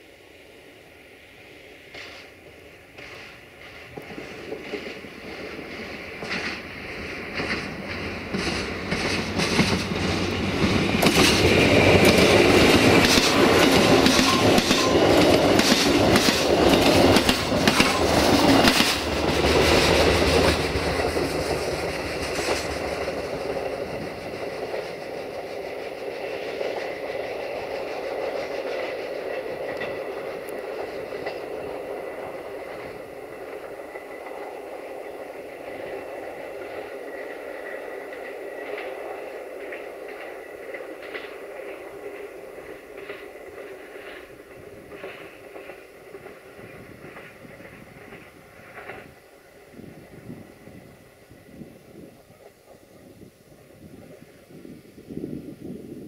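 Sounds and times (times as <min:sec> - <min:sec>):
train rumble: 0:00.0 - 0:56.0
train wheels clattering over rail joints: 0:01.9 - 0:50.9.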